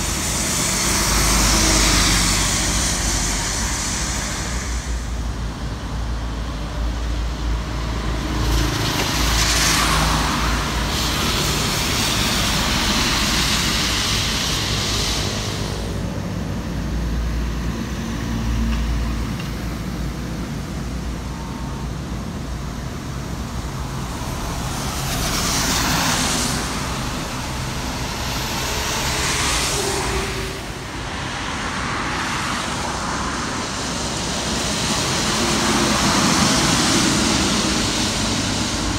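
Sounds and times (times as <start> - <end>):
traffic engines rumbling: 0.0 - 38.9
tyres hissing on wet road: 0.0 - 38.9.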